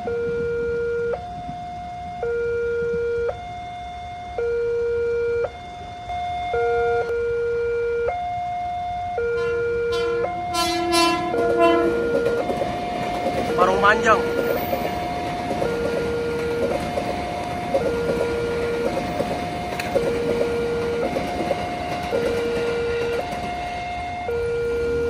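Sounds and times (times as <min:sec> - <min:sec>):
two-tone level crossing siren: 0:00.0 - 0:25.0.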